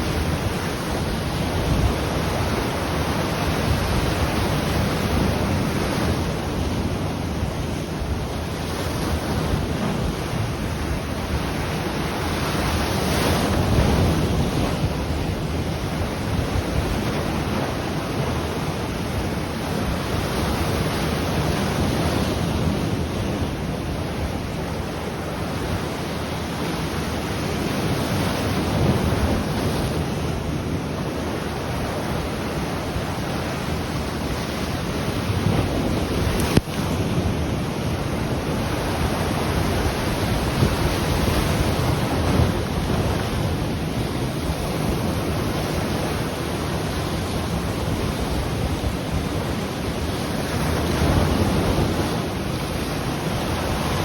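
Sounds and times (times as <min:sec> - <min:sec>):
ocean waves breaking on shore: 0:00.0 - 0:54.0
wind buffeting microphone: 0:00.0 - 0:54.0.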